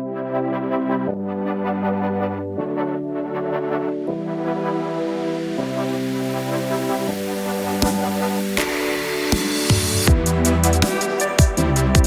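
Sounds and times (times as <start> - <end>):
electronic keyboard chords: 0.0 - 12.0.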